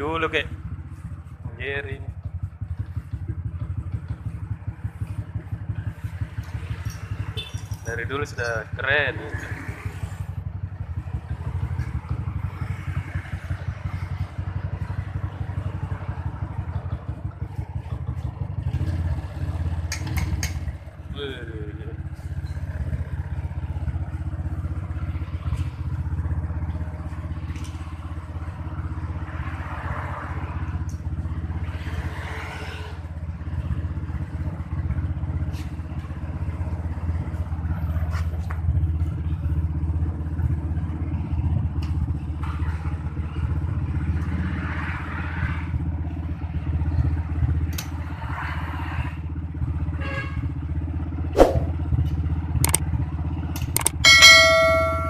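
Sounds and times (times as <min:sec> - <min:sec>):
motorcycle engine idling: 0:00.0 - 0:29.3, 0:33.0 - 0:44.2, 0:45.8 - 0:48.1, 0:49.2 - 0:55.0.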